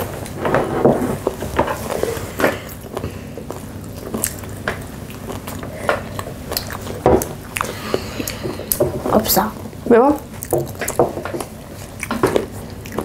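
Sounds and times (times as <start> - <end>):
chewing and biting food: 1.3 - 8.8, 9.6 - 13.0.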